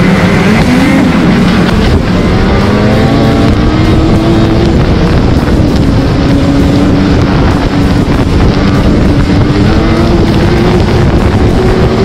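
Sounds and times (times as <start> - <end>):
snowmobile engine running: 0.0 - 12.0
wind noise on microphone: 0.0 - 12.0.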